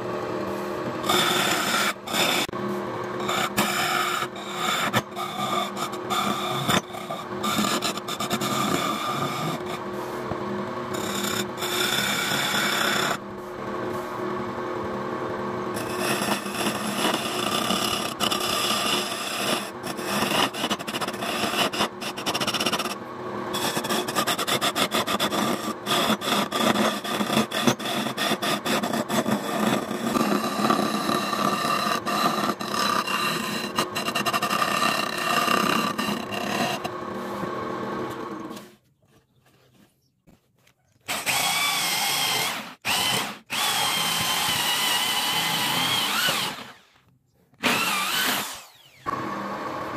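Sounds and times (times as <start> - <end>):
lathe motor running: 0.0 - 38.6, 41.2 - 46.9
turning tool scraping wood: 0.4 - 14.3, 15.7 - 49.3
electric drill whining: 3.2 - 9.8, 10.9 - 13.2, 15.8 - 38.7, 41.1 - 49.9.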